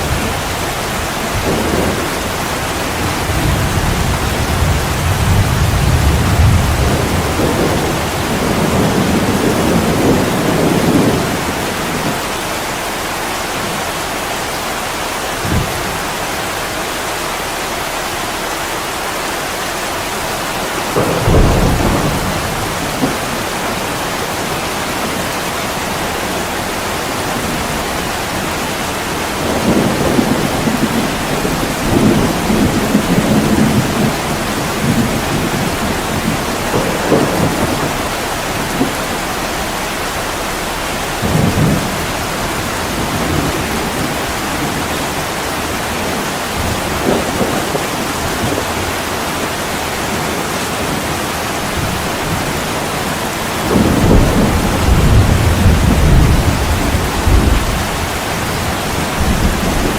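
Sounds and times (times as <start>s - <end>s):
thunder rumbling: 0.0s - 17.5s, 19.4s - 59.9s
heavy rain falling: 0.0s - 59.9s.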